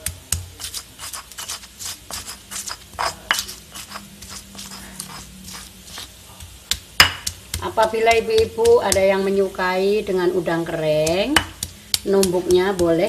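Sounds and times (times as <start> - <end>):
stone pestle knocking on mortar: 0.0 - 6.1, 6.7 - 9.1, 11.0 - 13.0.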